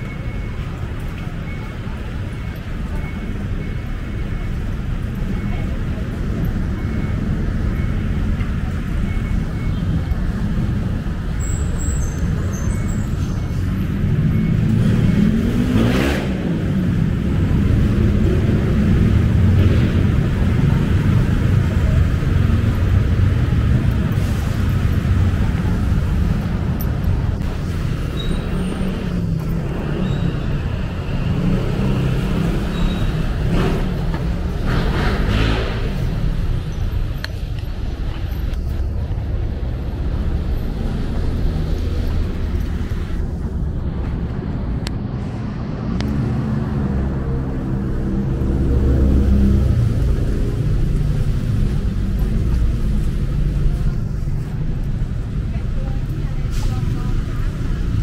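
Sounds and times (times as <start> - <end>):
low rumble of traffic: 0.0 - 58.0.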